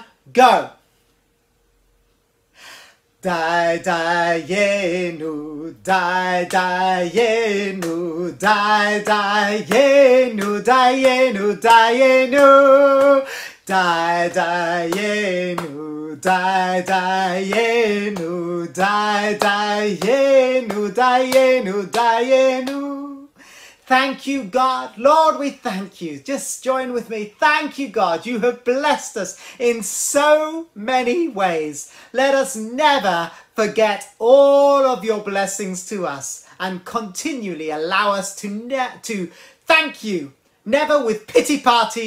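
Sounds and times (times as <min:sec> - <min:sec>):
man singing: 0:03.2 - 0:42.0.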